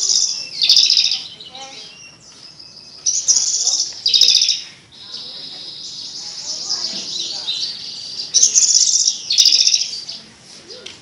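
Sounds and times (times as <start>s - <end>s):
bird high trilled song: 0.0s - 10.3s.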